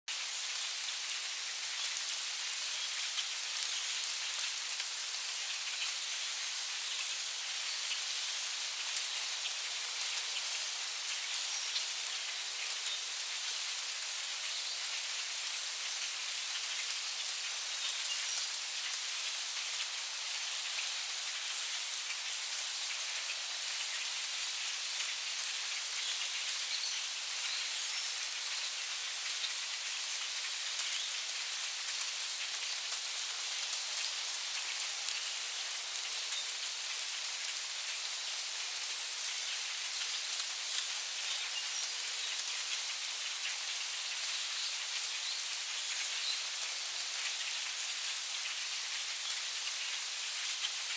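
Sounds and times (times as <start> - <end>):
rain falling on leaves: 0.1 - 50.9.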